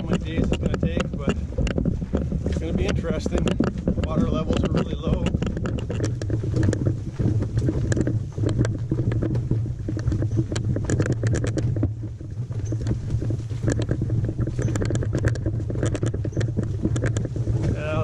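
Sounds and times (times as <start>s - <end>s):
canoe and gear knocking: 0.0s - 18.0s
footsteps on trail: 0.0s - 18.0s
steady low rumble: 0.0s - 18.0s.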